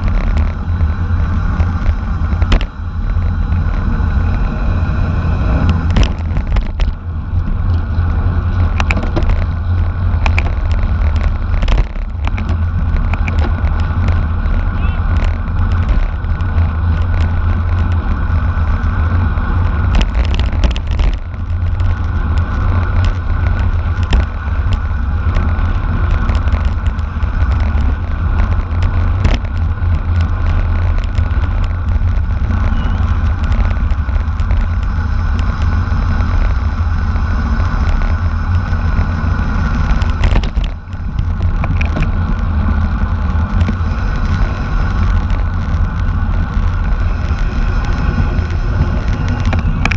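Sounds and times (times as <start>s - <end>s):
road noise: 0.0s - 49.9s
wind rushing over microphone: 0.0s - 49.9s.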